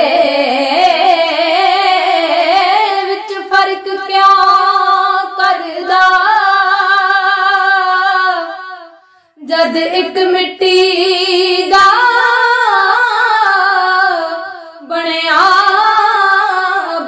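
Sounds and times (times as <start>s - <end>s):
girls singing devotional song: 0.0s - 17.0s.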